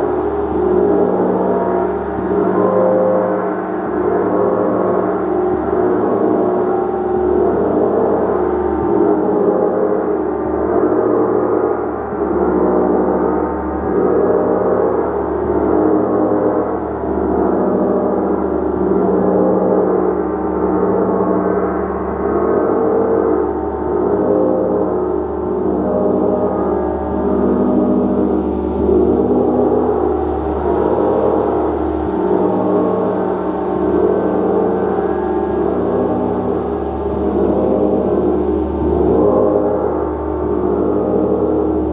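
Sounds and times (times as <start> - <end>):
gong strokes: 0.0 - 41.9.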